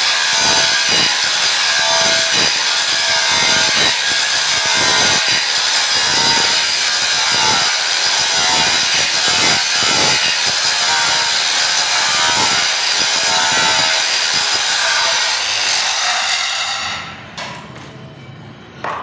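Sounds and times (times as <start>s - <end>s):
angle grinder grinding steel: 0.0s - 17.1s.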